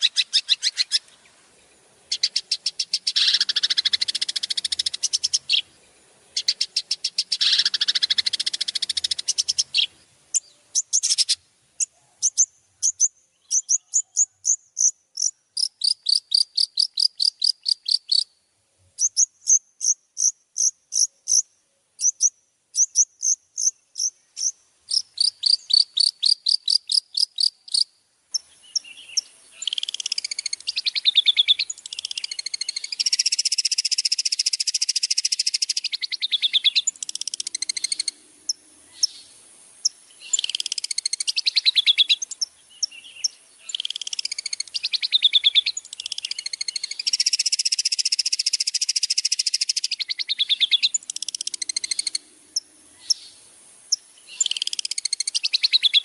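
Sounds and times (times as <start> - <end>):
songbird song: 0.0 - 56.0.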